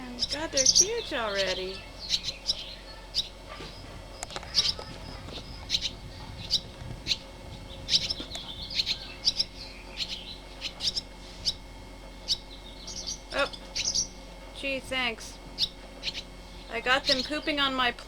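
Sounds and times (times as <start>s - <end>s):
young birds chirping: 0.0s - 18.0s.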